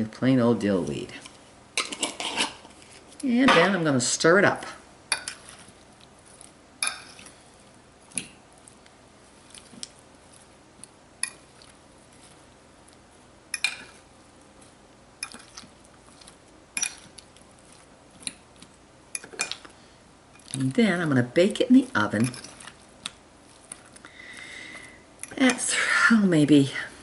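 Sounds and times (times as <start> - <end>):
soft squishing: 0.6 - 25.9.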